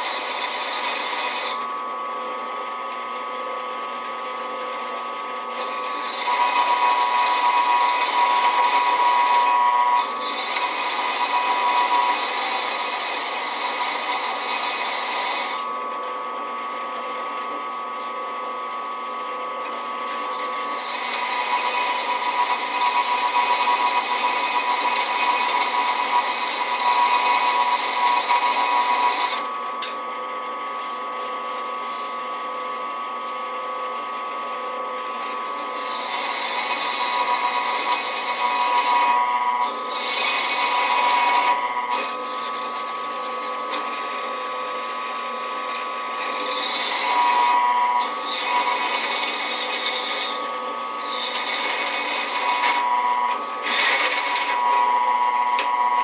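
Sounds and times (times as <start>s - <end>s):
drill press drilling steel: 0.0s - 31.4s, 32.3s - 56.0s.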